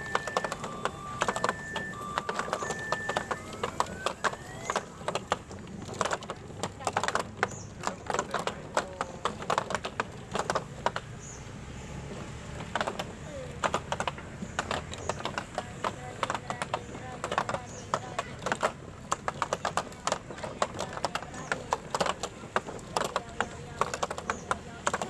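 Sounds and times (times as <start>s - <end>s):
rapid clicking and clattering: 0.0s - 25.0s.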